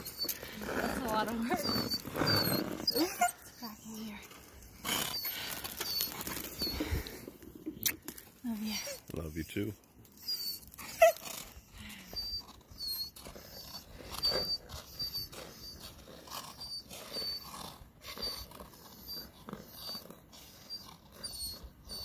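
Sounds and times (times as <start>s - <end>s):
dog whining: 0.0s - 7.3s, 9.7s - 22.0s.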